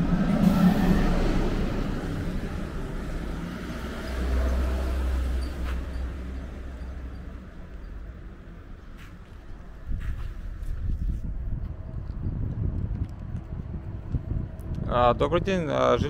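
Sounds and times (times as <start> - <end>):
vehicle engines passing: 0.0 - 14.8
heavy low rumble: 0.0 - 16.0.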